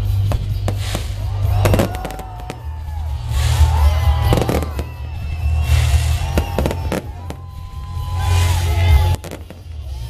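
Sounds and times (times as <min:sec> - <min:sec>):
background music: 0:00.0 - 0:10.0
fireworks bursting with bangs: 0:00.0 - 0:10.0.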